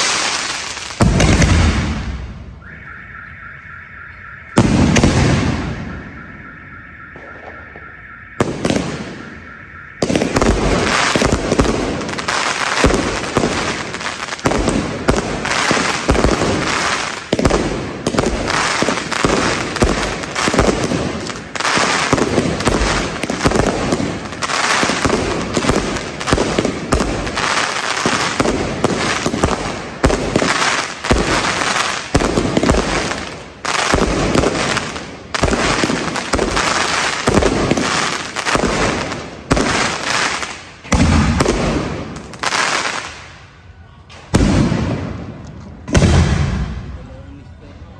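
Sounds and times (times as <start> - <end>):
fireworks and firecrackers banging: 0.0 - 47.6.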